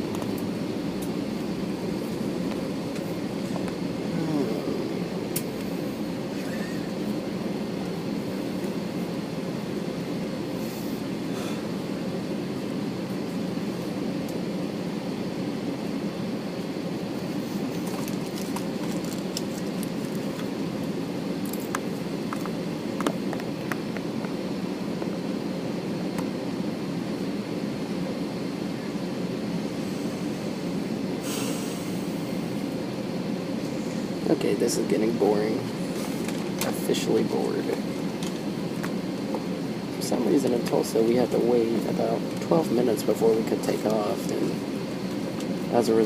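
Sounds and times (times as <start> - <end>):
airplane cabin engine idle noise: 0.0 - 46.0
faint high whine: 0.0 - 46.0.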